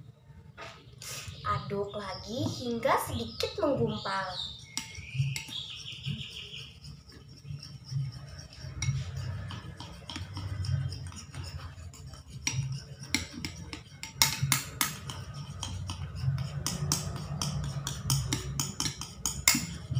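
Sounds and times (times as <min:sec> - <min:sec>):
spoon scraping ceramic bowl: 0:02.2 - 0:19.9.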